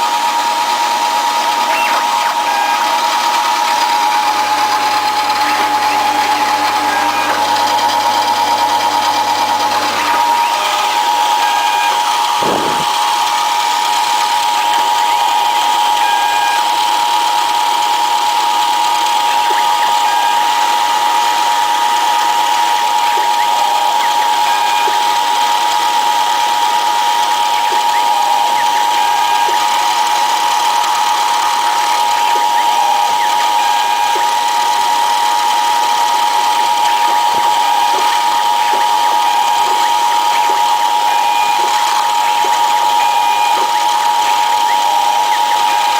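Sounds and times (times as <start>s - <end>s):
high whine of mill: 0.0s - 45.9s
stepper motor tones: 0.0s - 45.9s.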